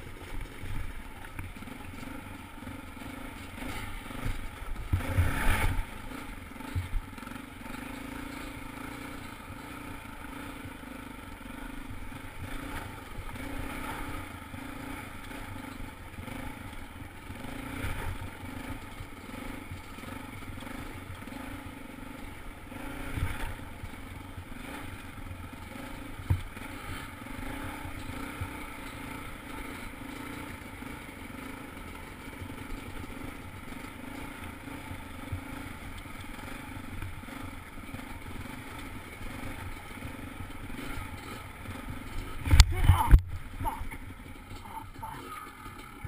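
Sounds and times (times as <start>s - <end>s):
dirt bike engine running: 0.0s - 46.0s.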